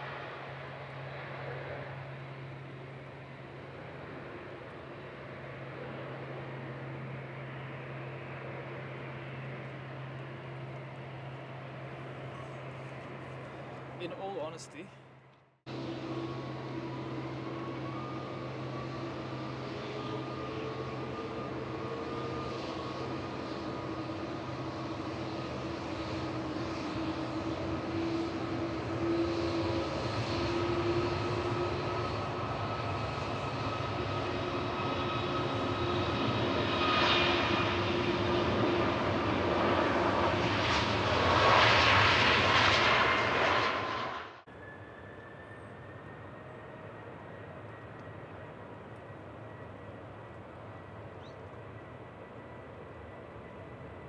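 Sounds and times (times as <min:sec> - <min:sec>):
jet airliner engines roaring: 0:00.0 - 0:54.0.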